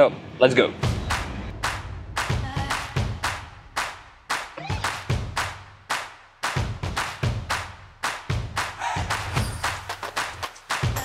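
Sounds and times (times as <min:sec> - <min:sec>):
percussive background music: 0:00.8 - 0:11.0.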